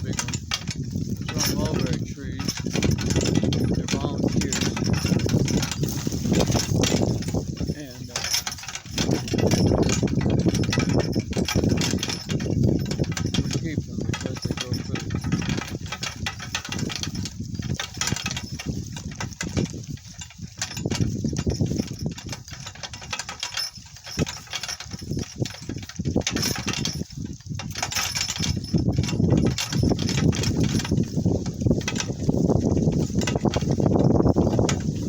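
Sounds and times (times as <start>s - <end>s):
cart knocks and rattles: 0.0s - 35.0s
cart rolling over rough ground: 0.0s - 35.0s.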